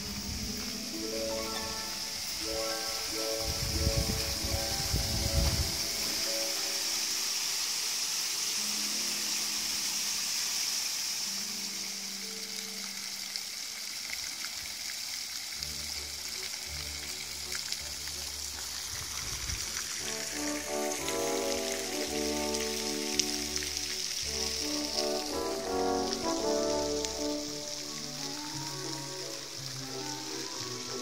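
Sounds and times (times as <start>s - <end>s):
fountain water splashing: 0.0s - 31.0s.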